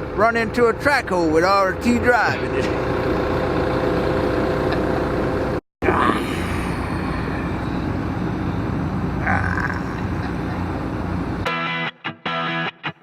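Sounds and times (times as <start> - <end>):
excavator diesel engine running: 0.0 - 11.4.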